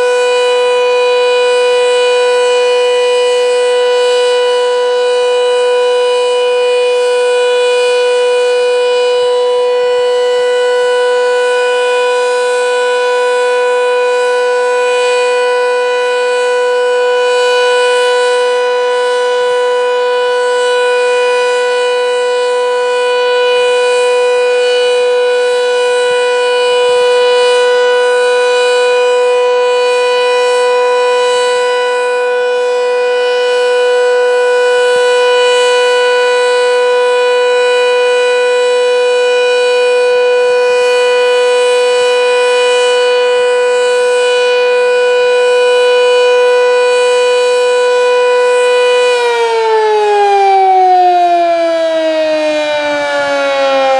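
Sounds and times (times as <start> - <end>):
warning siren steady tone: 0.0 - 53.9.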